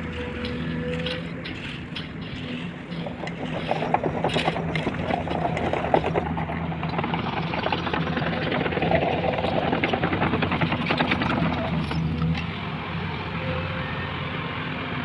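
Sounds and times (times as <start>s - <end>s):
construction vehicle engine: 0.0s - 15.0s.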